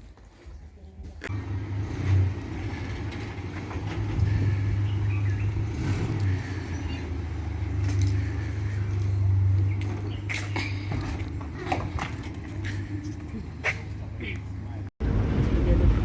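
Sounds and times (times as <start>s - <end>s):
car engine and road rumble: 1.2s - 16.0s.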